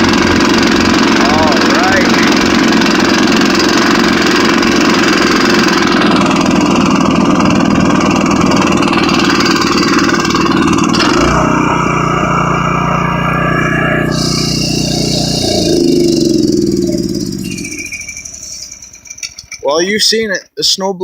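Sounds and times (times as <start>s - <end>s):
snowblower engine running: 0.0s - 19.9s.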